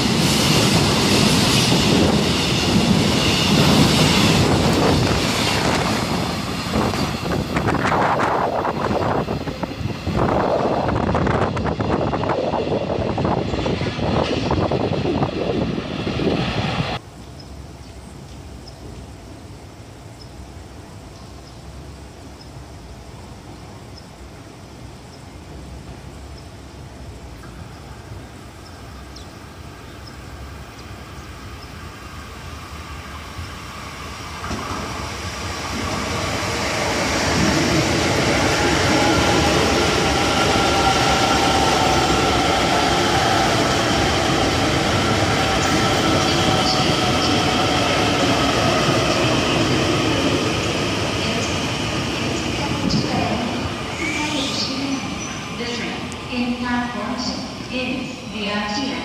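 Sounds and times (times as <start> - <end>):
electric train passing: 0.0 - 59.0.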